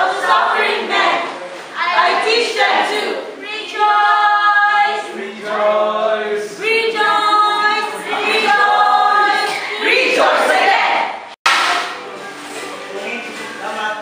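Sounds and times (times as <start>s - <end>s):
group singing unaccompanied: 0.0s - 11.3s.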